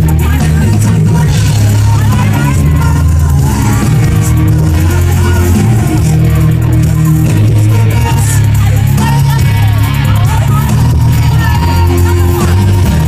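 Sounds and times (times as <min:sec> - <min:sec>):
loud pop music over pa: 0:00.0 - 0:13.0.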